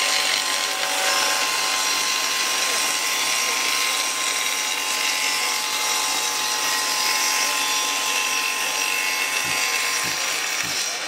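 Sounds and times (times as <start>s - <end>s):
table saw ripping wood: 0.0s - 11.0s.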